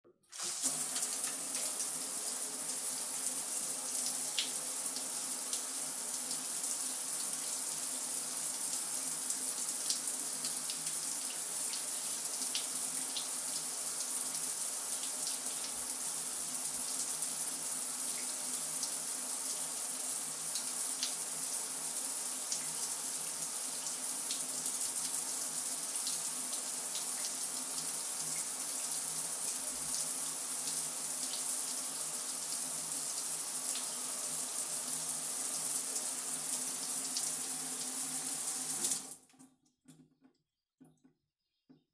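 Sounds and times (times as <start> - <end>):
shower water splashing on floor: 0.2 - 39.5.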